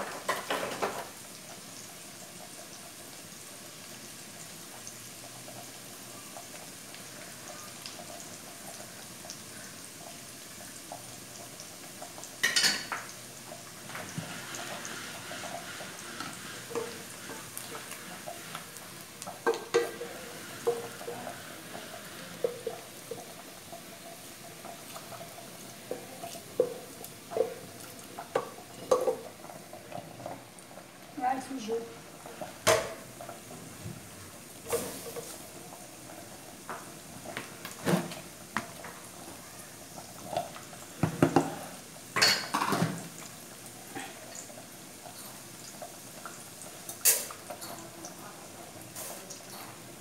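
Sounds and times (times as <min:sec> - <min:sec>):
rice sizzling in a pot: 0:00.0 - 0:50.0.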